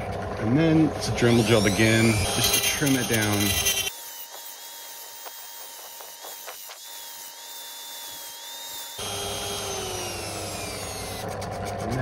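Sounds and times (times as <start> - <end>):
rotary tool cutting steel rod: 1.1 - 12.0.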